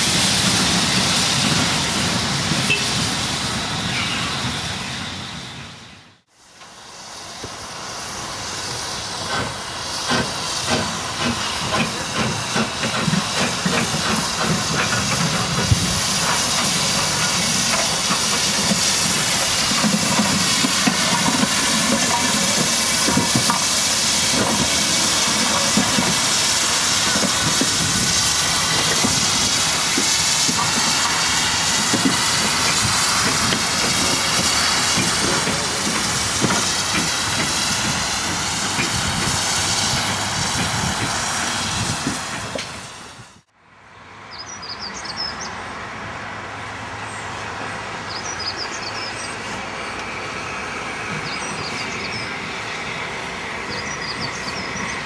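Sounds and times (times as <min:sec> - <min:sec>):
steam hissing: 0:00.0 - 0:43.5, 0:47.4 - 0:55.0.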